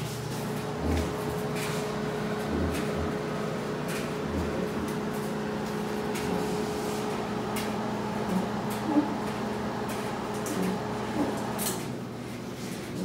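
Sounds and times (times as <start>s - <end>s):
oven fan hum: 0.0s - 13.0s.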